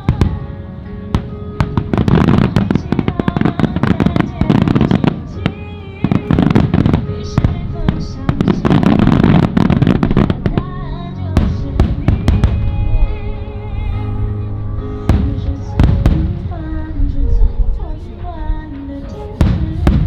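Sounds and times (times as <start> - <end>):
melodic music: 0.0 - 20.0
fireworks bangs: 1.1 - 20.0.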